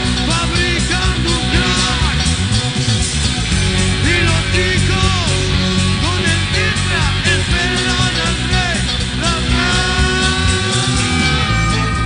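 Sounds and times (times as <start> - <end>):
rock song by full band: 0.0 - 12.0.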